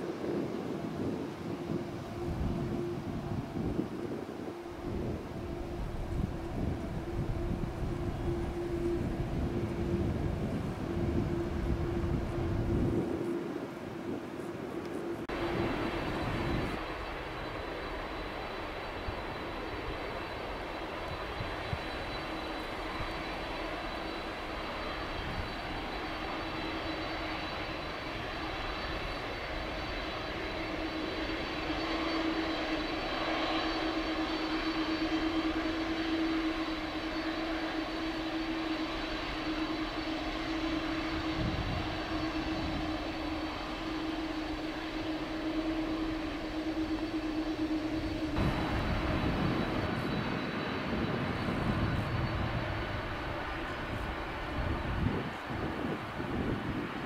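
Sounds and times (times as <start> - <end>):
faint high whine: 0.0 - 57.0
jet engines humming at taxi power: 0.0 - 57.0
low broad engine rumble: 0.0 - 57.0.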